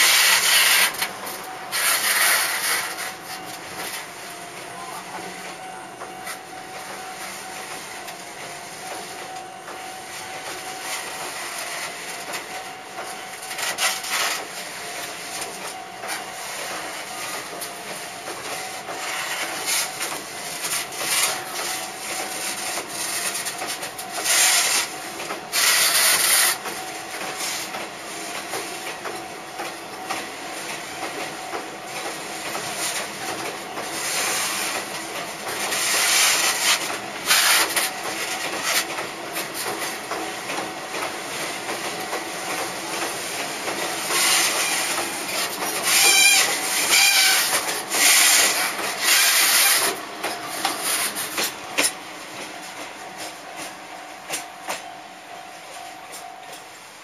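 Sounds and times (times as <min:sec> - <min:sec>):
train wheels clacking over rail joints: 0:00.0 - 0:04.1, 0:08.8 - 0:30.3, 0:30.9 - 0:54.9
train rumble: 0:00.0 - 0:57.0.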